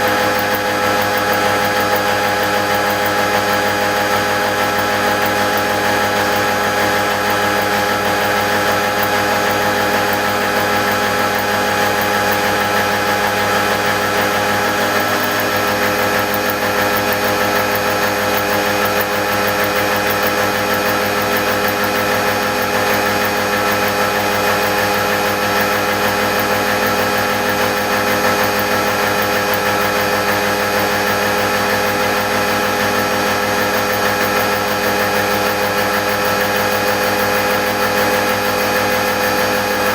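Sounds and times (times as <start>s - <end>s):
gear-milling cutter machining whine: 0.0s - 39.9s.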